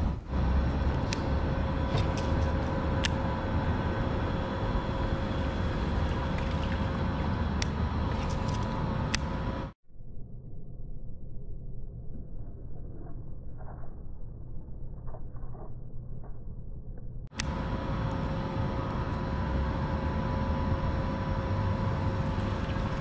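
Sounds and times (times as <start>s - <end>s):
machine hum: 0.0s - 13.1s, 14.6s - 23.0s
low rumbling: 0.0s - 23.0s.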